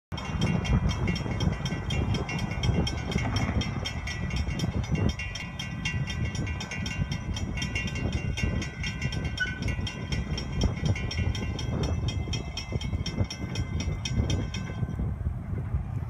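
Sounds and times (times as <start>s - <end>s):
crossing warning bell ringing: 0.1s - 15.4s
low rumble: 0.2s - 16.0s.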